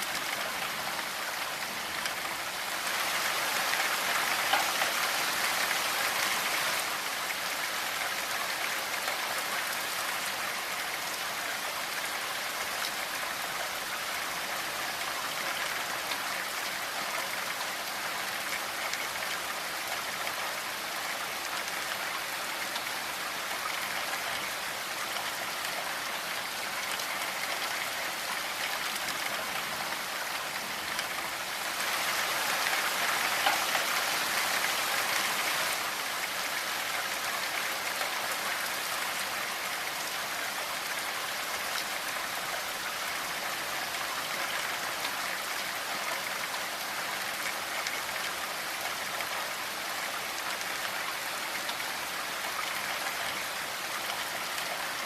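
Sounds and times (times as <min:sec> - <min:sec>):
rain hissing on a surface: 0:00.0 - 0:55.0.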